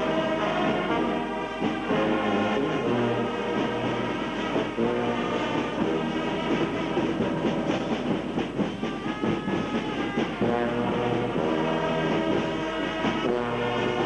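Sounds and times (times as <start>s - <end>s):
brass band playing chords: 0.0s - 14.0s.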